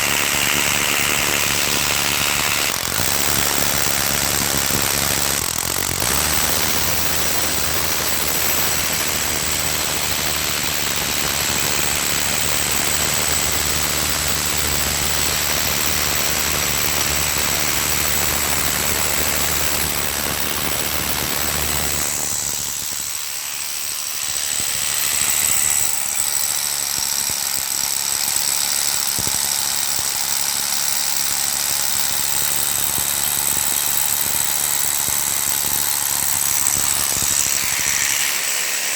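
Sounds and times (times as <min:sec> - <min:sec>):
electric drill motor whining: 0:00.0 - 0:38.9.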